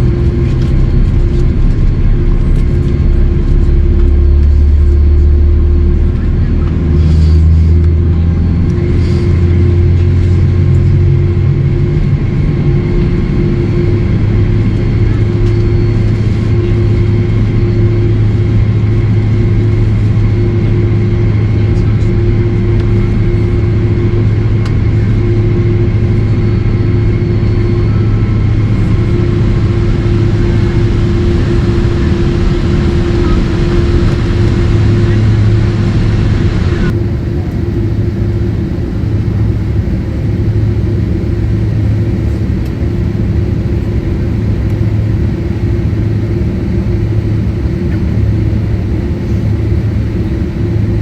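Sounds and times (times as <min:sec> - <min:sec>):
airliner engine drone: 0:00.0 - 0:51.0.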